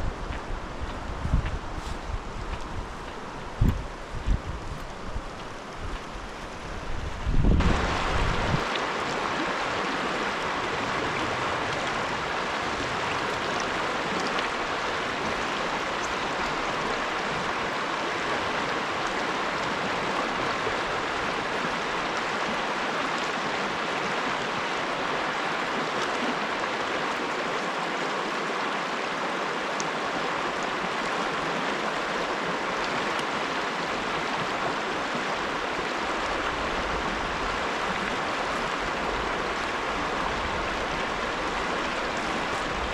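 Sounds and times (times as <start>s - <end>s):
creek water rushing: 0.0s - 42.9s.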